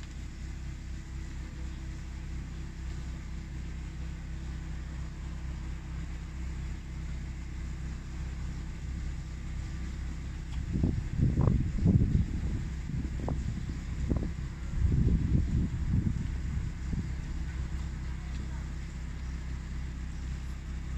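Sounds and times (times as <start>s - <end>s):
low mechanical hum: 0.0s - 20.9s
rough rumble: 0.0s - 20.9s.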